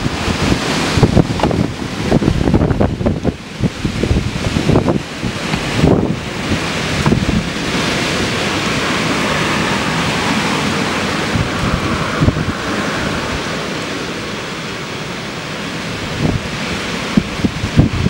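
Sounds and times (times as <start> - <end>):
storm wind rushing through trees: 0.0 - 18.0
wind buffeting microphone: 0.0 - 18.0.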